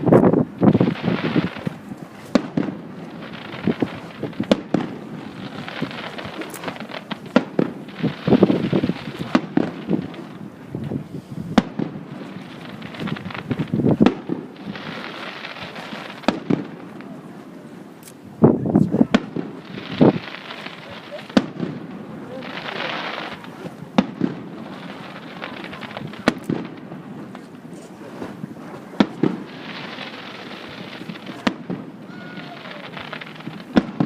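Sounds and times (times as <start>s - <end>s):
fireworks bangs: 0.0s - 34.0s
fireworks crackling: 0.0s - 34.0s
fireworks hissing: 0.0s - 34.0s.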